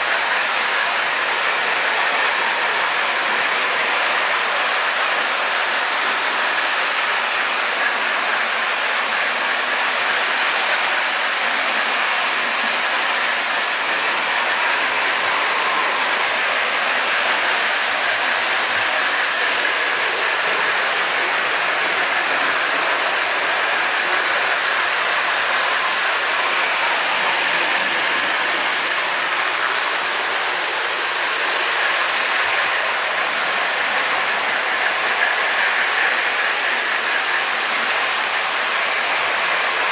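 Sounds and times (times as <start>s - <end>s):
toy trains whirring: 0.0s - 39.9s.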